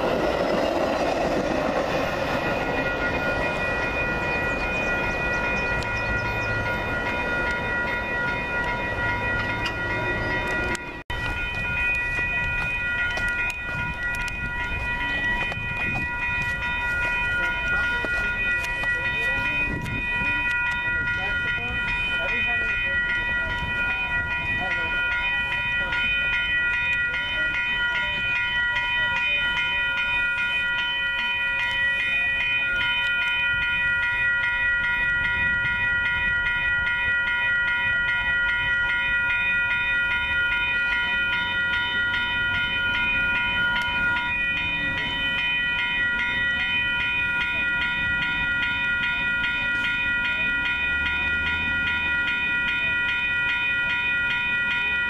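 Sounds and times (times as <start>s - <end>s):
railroad crossing bell ringing: 0.0s - 55.0s.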